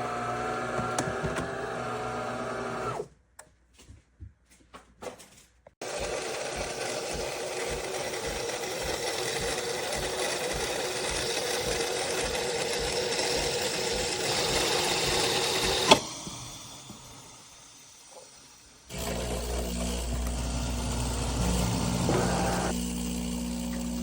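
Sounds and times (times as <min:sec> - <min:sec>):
espresso machine whirring: 0:00.0 - 0:03.0, 0:05.8 - 0:24.0.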